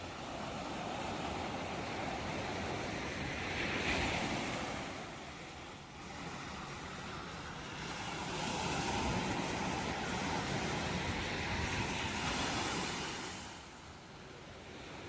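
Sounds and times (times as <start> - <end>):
ocean waves rushing: 0.0 - 13.8.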